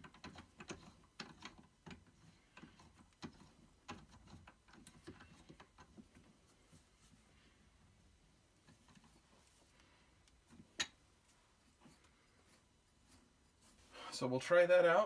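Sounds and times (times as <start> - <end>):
faint clicks and light knocks: 0.0 - 7.5, 8.5 - 13.8.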